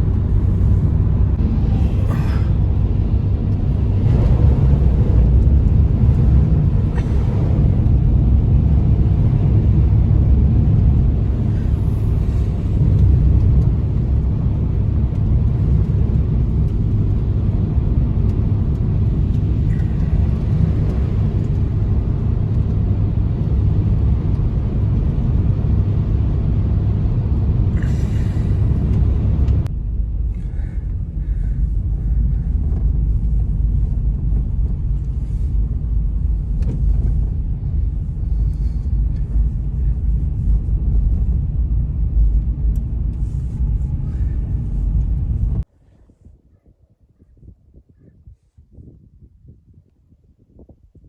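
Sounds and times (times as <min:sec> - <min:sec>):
blizzard wind blowing: 0:00.0 - 0:51.0.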